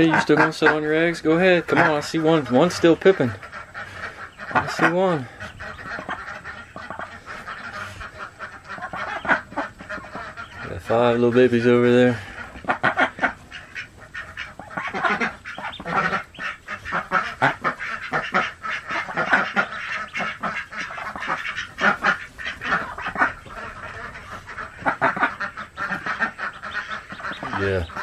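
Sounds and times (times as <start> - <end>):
duck quacking rapidly: 0.0 - 28.0.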